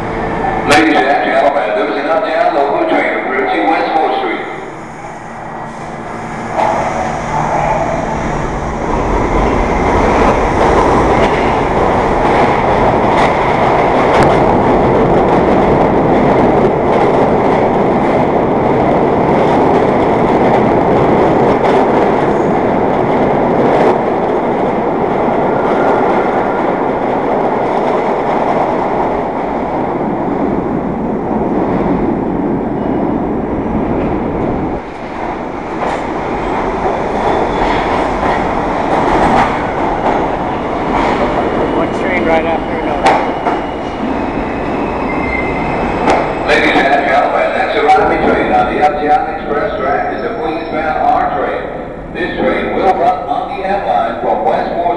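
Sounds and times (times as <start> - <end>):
subway train rumbling: 0.0 - 54.9
rail clicks: 3.6 - 54.9.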